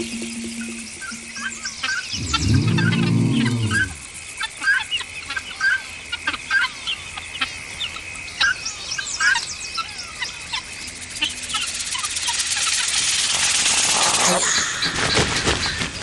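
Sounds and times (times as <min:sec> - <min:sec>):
birds chirping in alarm: 0:00.0 - 0:13.2
steady high-pitched whine: 0:00.0 - 0:15.0.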